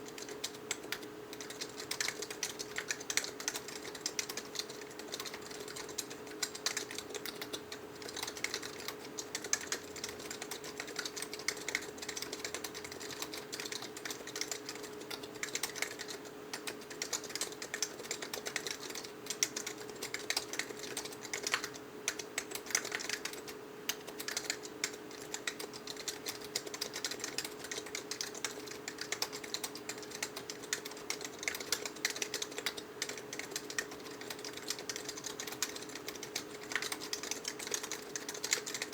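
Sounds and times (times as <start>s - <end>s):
faint steady hum: 0.0s - 38.9s
typing on mechanical keyboard: 0.0s - 38.9s.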